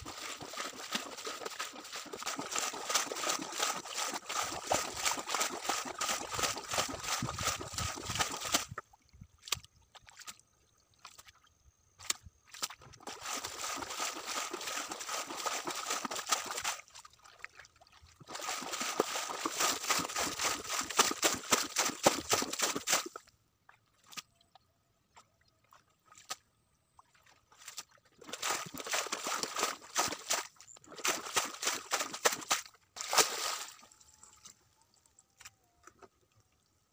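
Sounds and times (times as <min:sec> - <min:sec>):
water pouring from a bucket: 0:00.0 - 0:11.4, 0:12.0 - 0:23.3, 0:27.1 - 0:34.6
water splashing into a stream: 0:00.0 - 0:11.4, 0:12.0 - 0:23.3, 0:25.7 - 0:34.6.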